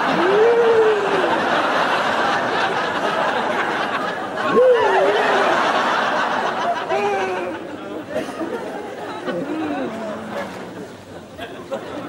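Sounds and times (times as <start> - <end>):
audience murmuring and laughing: 0.0 - 12.0.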